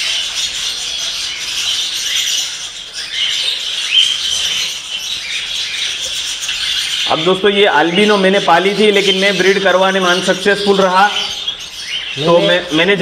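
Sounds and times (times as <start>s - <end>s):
parrots chirping and chattering: 0.0s - 13.0s.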